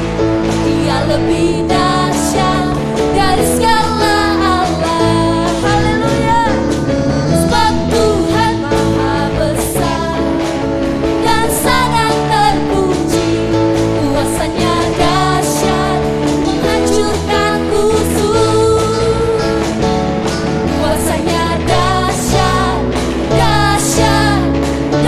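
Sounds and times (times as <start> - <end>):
live band with guitar: 0.0 - 25.0
voices singing worship music: 0.0 - 25.0.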